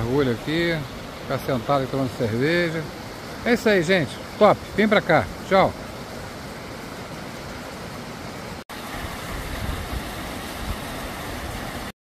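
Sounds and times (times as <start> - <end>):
stream water rushing over rocks: 0.0 - 11.9.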